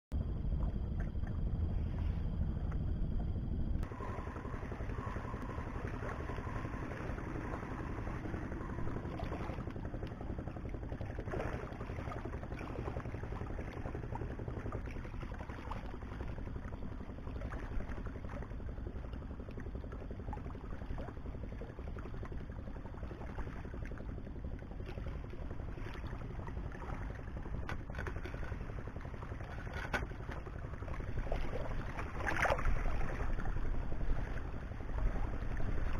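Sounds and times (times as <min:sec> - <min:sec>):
wind rumbling on microphone: 0:00.1 - 0:35.9.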